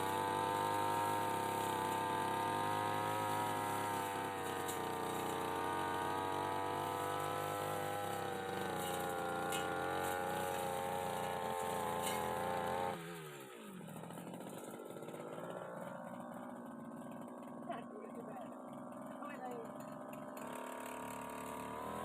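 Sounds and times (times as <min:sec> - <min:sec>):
brush cutter engine running: 0:00.0 - 0:22.0.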